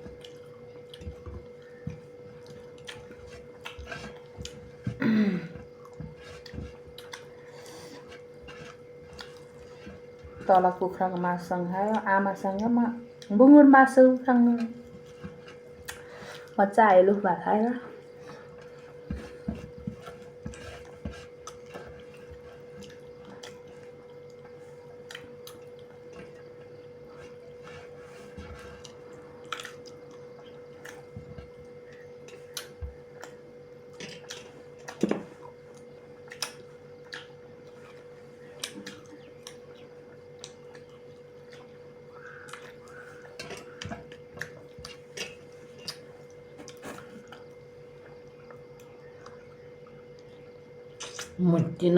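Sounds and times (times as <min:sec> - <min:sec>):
chewing: 0:00.0 - 0:11.3, 0:14.8 - 0:16.6, 0:18.0 - 0:51.4
steady hum: 0:00.0 - 0:51.9.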